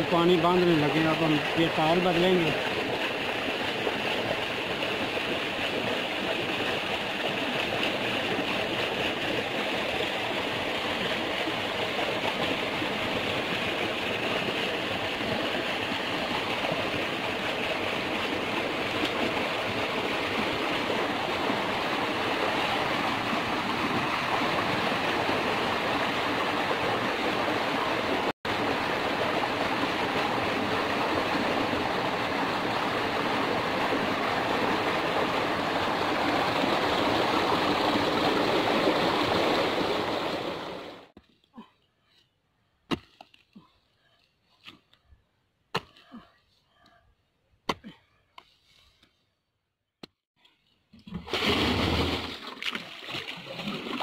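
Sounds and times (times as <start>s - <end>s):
water rushing through channel: 0.0s - 41.1s, 51.1s - 54.0s.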